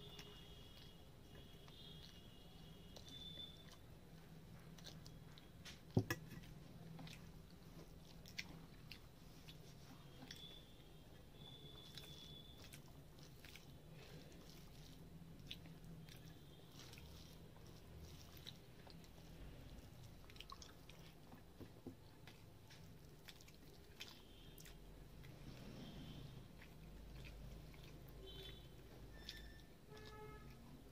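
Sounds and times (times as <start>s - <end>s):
hand squeezing wet rice: 0.0s - 30.9s.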